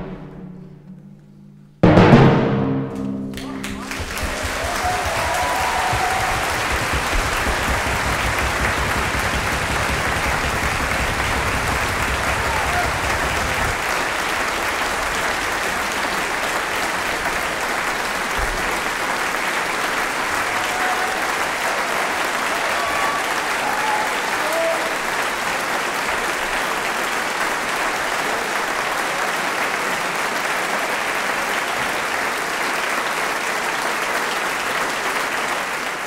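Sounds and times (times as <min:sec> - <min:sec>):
audience applauding: 0:03.3 - 0:36.0.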